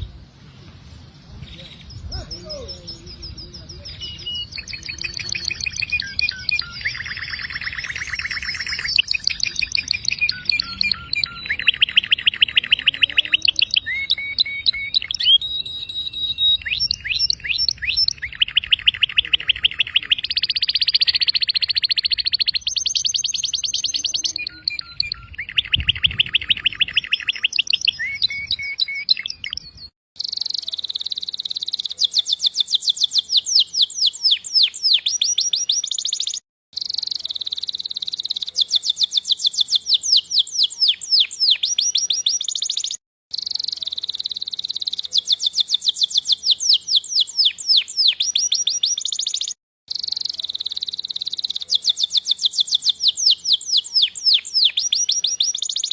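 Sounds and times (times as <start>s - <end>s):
canary singing trills: 1.4s - 55.9s.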